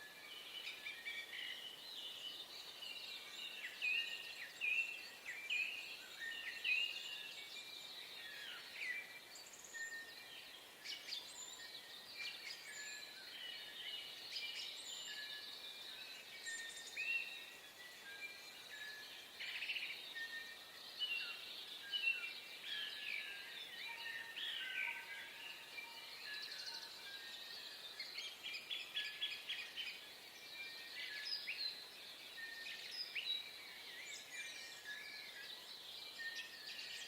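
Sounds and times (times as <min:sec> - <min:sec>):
faint outdoor hiss: 0:00.0 - 0:37.0
many birds chirping: 0:00.1 - 0:37.0.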